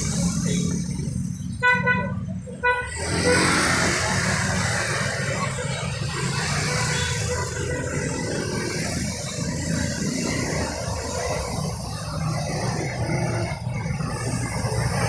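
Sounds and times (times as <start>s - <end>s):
traffic noise: 0.0s - 15.0s
vehicle engine running: 0.0s - 15.0s.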